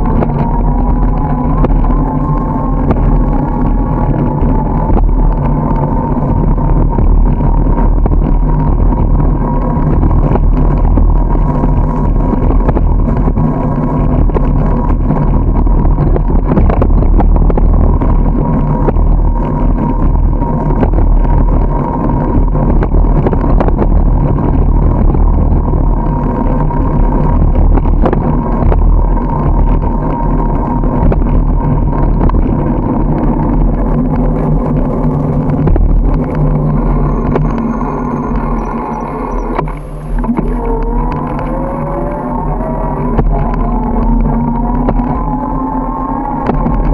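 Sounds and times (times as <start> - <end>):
wind and tyre rumble: 0.0 - 46.9.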